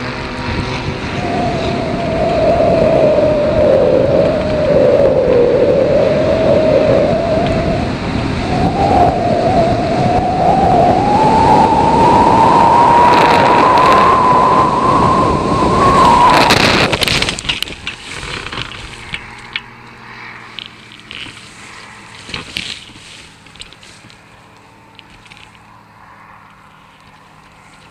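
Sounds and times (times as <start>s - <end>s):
grass rustling against wing: 0.0s - 27.9s
rising whine: 0.0s - 27.9s
wind rushing over microphone: 0.0s - 27.9s.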